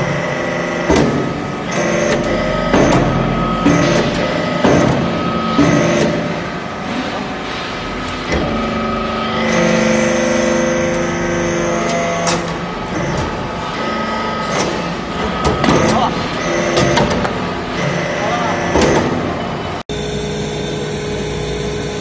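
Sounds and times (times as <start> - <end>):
deeper machine drone: 0.0 - 22.0
steady machine whine: 0.0 - 22.0.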